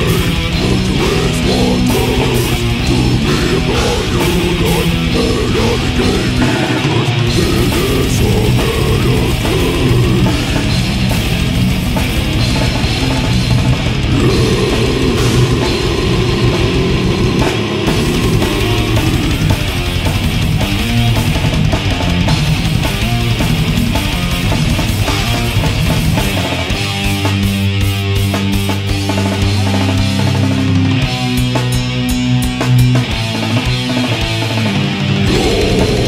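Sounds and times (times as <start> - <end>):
distorted electric guitars: 0.0 - 36.0.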